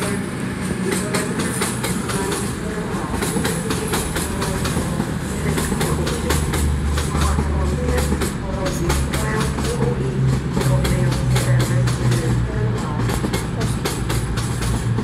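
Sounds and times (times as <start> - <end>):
diesel engines droning: 0.0 - 15.0
train wheels clicking over rail joints: 0.0 - 15.0.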